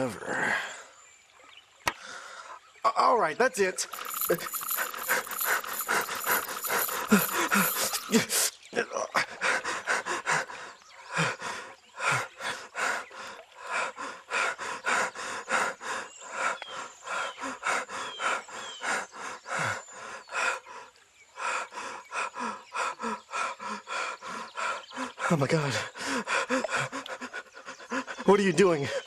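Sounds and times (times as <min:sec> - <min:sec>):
man panting hard: 0:03.8 - 0:08.6, 0:09.2 - 0:29.0.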